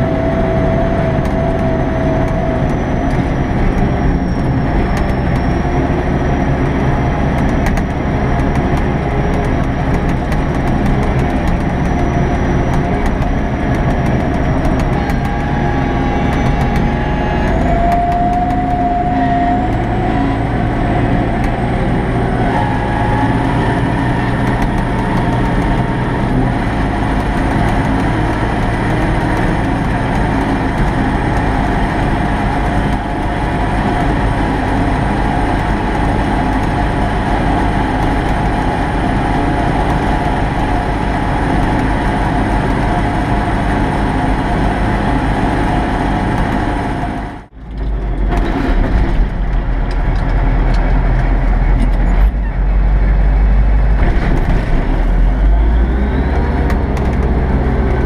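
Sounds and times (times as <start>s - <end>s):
tractor diesel engine rumbling: 0.0s - 58.0s
whining tone: 0.0s - 58.0s.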